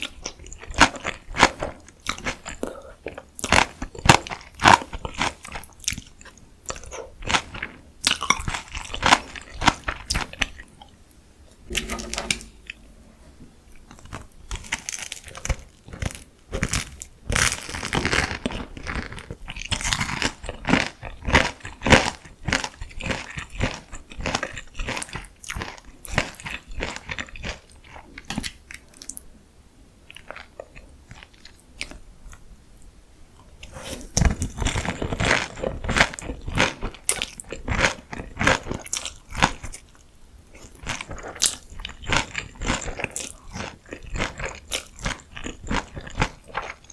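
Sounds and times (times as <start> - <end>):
crunchy food chewing: 0.0 - 11.0, 13.9 - 29.2, 33.4 - 46.9.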